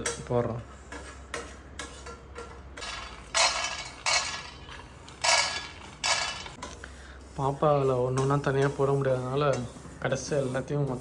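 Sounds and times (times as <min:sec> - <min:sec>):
spatula scraping pan: 0:00.0 - 0:11.0.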